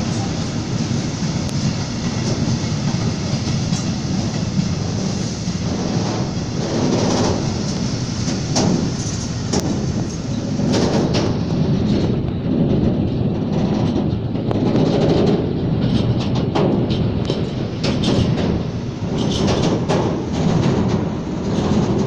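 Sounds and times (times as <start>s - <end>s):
train rumbling on track: 0.0s - 22.0s
wheels clicking over rail joints: 0.0s - 22.0s.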